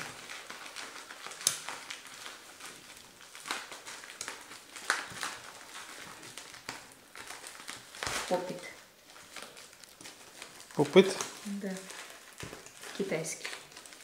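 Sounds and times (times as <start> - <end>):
packaging rustling: 0.0 - 14.0
plastic items clicking and tapping: 0.0 - 14.0.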